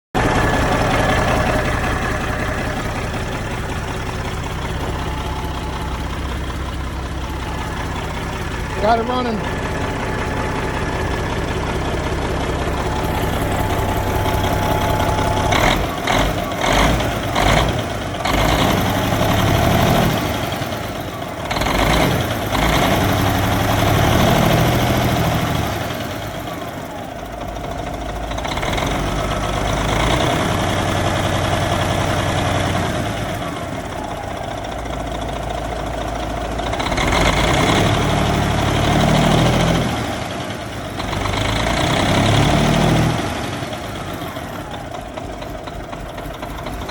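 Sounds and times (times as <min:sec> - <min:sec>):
diesel engine idling: 0:00.1 - 0:46.9.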